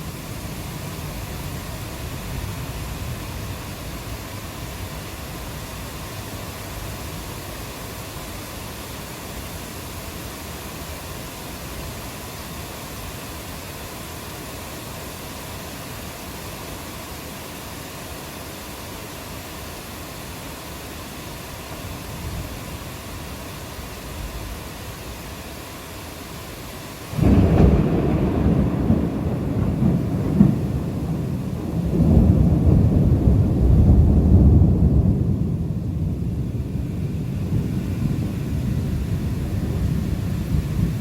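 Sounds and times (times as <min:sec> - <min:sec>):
steady rain hiss: 0:00.0 - 0:41.0.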